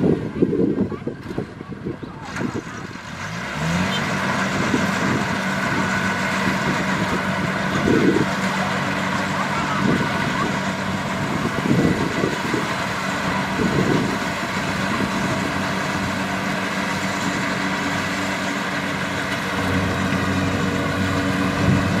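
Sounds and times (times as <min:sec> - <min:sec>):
combine harvester diesel engine: 0:00.0 - 0:22.0.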